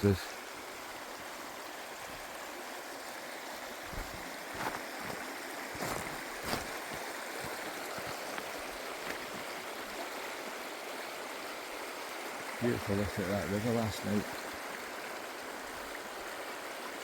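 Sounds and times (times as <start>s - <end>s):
river rushing over stones: 0.0s - 17.0s.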